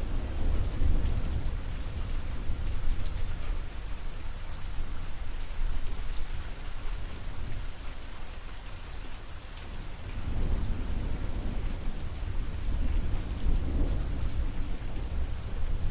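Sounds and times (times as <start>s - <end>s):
low rumble of thunder: 0.0s - 15.9s
steady rain: 0.0s - 15.9s.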